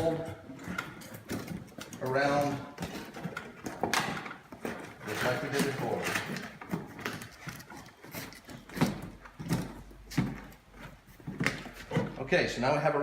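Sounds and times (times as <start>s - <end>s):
cardboard scraping and rustling: 0.0s - 12.3s.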